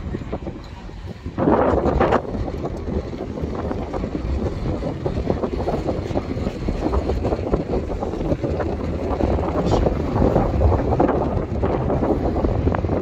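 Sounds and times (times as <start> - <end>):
low rumble of ferry: 0.0 - 13.0
wind buffeting microphone: 0.0 - 13.0.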